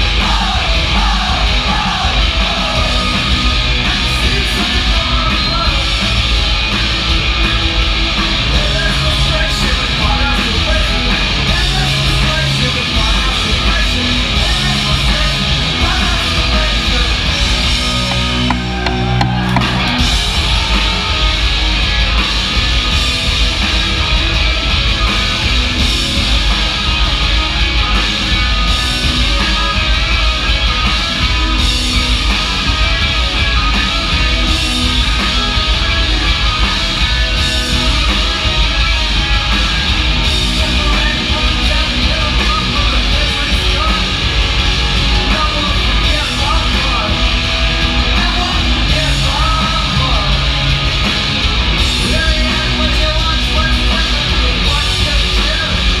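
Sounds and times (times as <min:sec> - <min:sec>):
punk rock band playing live: 0:00.0 - 0:56.0.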